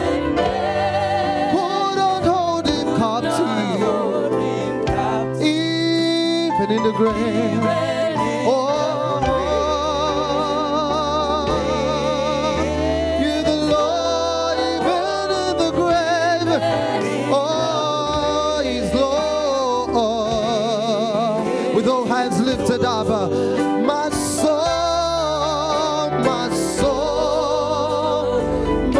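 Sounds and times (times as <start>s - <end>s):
instrumental backing with bass: 0.0s - 28.9s
person singing with vibrato: 0.0s - 28.9s.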